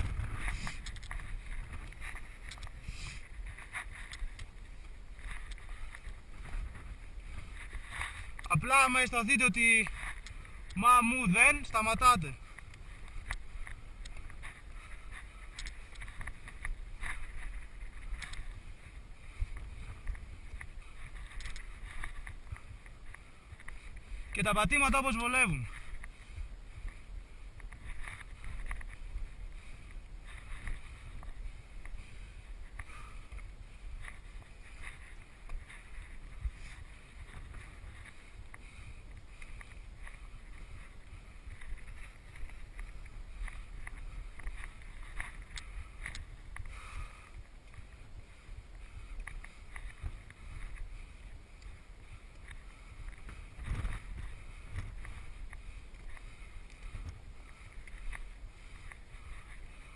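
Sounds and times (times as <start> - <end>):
wind rumble on microphone: 0.0 - 24.8, 25.4 - 59.9
footsteps on rock and loose stones: 0.0 - 59.9.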